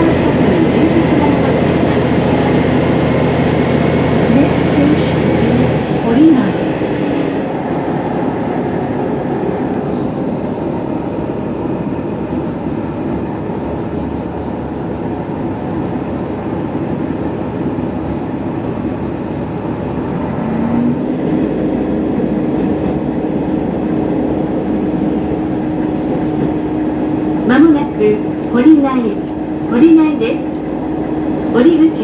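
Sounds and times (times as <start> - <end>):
train wheels and engine rumble: 0.0 - 32.0.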